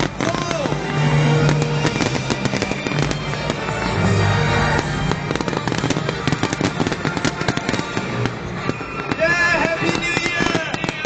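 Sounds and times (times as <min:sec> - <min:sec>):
fireworks cracking and popping: 0:00.0 - 0:11.0
music playing: 0:00.0 - 0:11.0.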